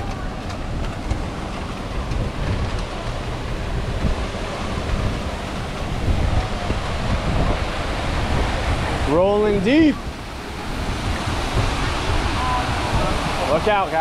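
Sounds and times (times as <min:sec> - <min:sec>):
steady rushing noise: 0:00.0 - 0:14.0
wind buffeting microphone: 0:00.0 - 0:14.0.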